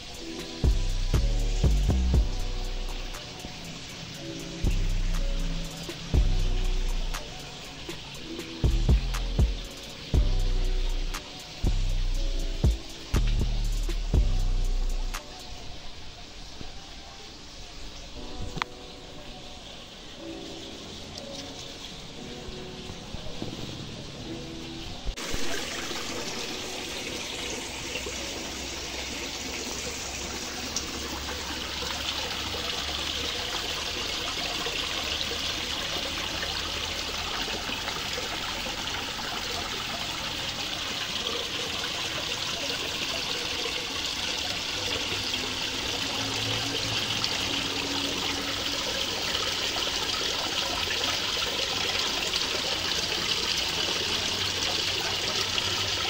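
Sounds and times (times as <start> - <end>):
small waterfall trickling into pond: 0.0 - 56.0.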